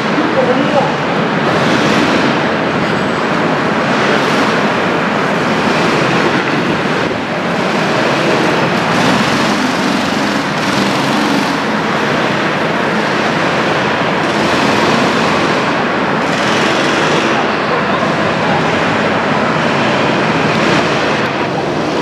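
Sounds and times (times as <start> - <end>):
go-kart engines running: 0.0 - 22.0.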